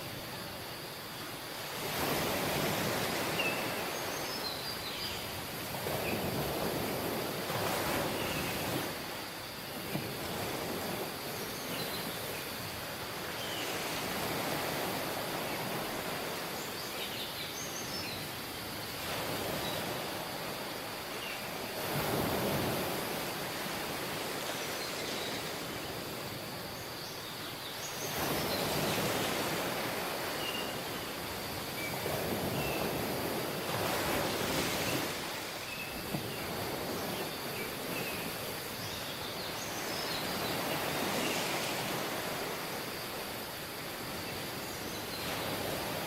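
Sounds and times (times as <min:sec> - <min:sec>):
waves breaking on beach: 0:00.0 - 0:46.0.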